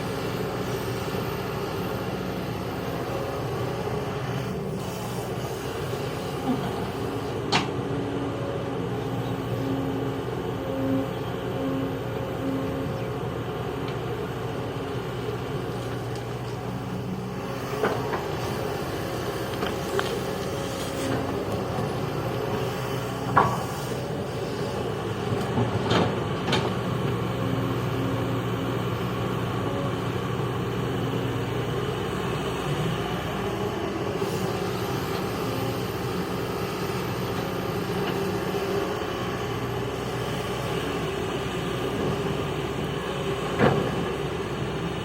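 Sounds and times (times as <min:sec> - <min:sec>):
diesel excavator engine running: 0:00.0 - 0:45.0.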